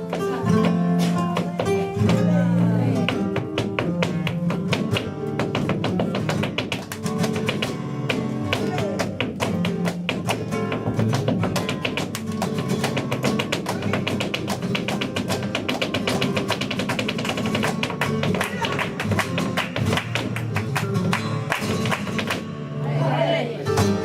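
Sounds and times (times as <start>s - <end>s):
dancer's footwork strikes: 0.0s - 22.5s
flamenco guitar: 0.0s - 24.0s.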